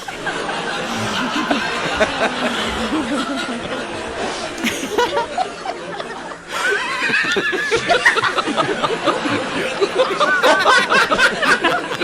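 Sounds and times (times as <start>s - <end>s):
crowd laughing: 0.0s - 12.0s.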